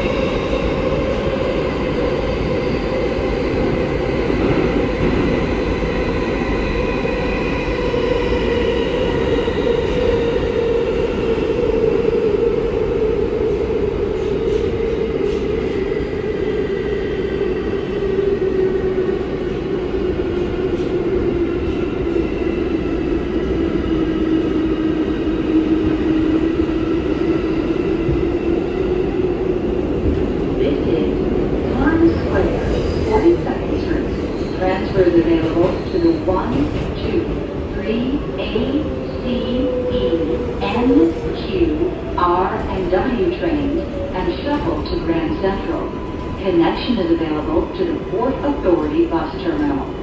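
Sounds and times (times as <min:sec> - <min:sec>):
train wheels rumbling on track: 0:00.0 - 0:50.0.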